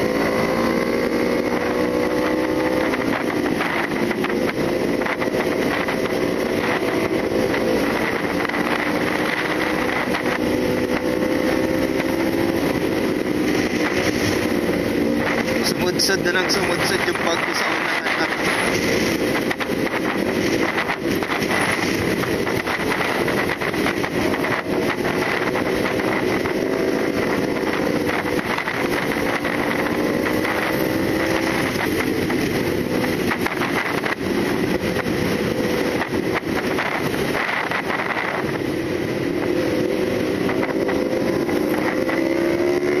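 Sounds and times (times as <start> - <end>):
motorcycle engine cruising: 0.0 - 43.0
wind rushing over microphone: 0.0 - 43.0.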